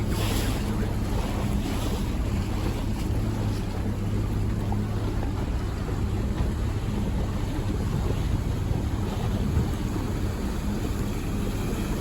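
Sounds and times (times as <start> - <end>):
boat engine humming: 0.0 - 12.0
rushing wind and water: 0.0 - 12.0.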